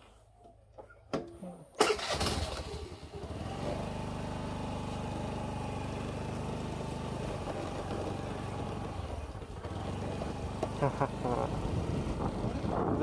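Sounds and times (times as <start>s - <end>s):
scooter engine running: 2.0s - 13.0s.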